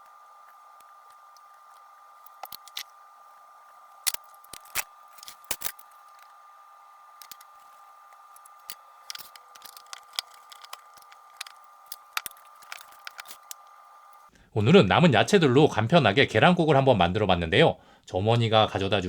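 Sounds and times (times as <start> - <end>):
faint two-tone hum: 0.0 - 19.0.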